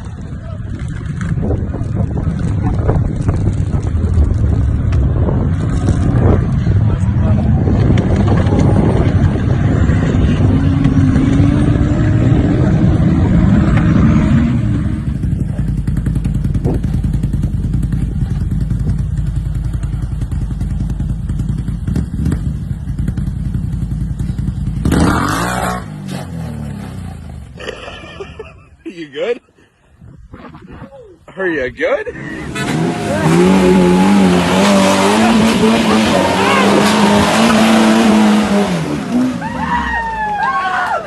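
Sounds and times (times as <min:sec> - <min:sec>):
off-road vehicle engine revving: 0:00.0 - 0:28.2, 0:32.1 - 0:41.0.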